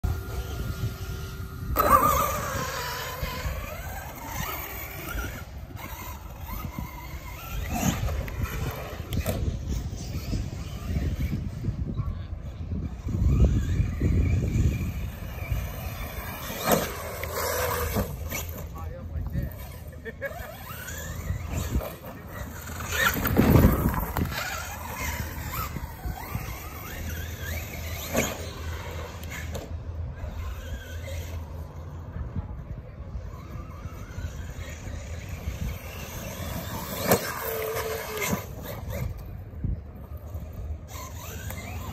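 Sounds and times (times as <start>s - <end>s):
electric motor whining: 0.0s - 41.9s.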